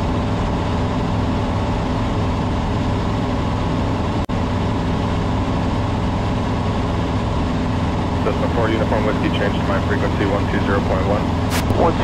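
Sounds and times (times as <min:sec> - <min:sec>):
small plane engine droning: 0:00.0 - 0:12.0.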